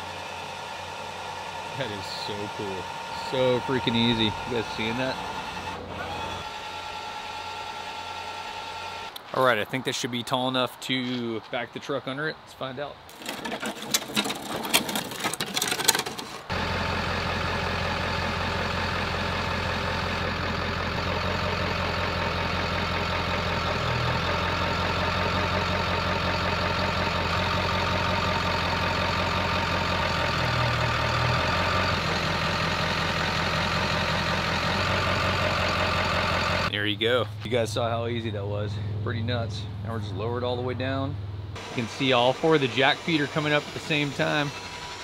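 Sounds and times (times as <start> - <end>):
diesel truck engine running: 0.0 - 9.2, 16.4 - 45.0.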